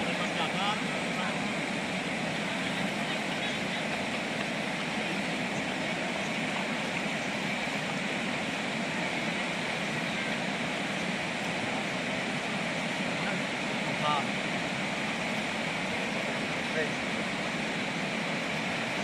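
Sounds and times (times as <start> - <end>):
river flowing over stones: 0.0 - 19.0.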